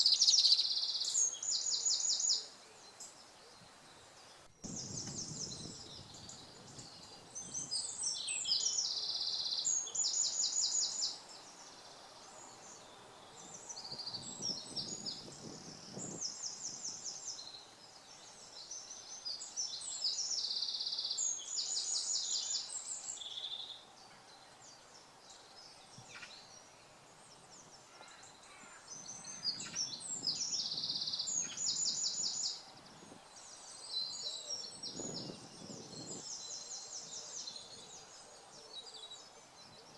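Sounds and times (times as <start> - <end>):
faint bird chirps: 0.0 - 39.9
songbird singing with rattling trills: 0.0 - 39.9.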